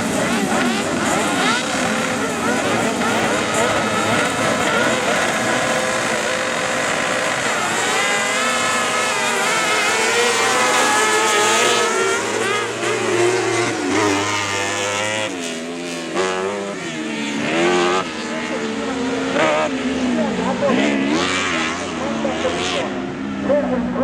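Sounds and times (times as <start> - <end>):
racing kart engines at high revs: 0.0 - 24.0.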